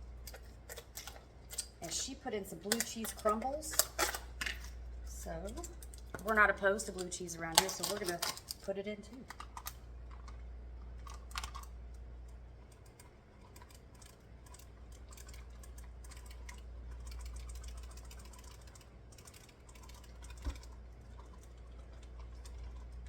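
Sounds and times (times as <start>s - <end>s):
cheese crumbles clicking and tapping: 0.0s - 2.0s, 2.6s - 23.0s
steady low hum: 0.0s - 23.0s.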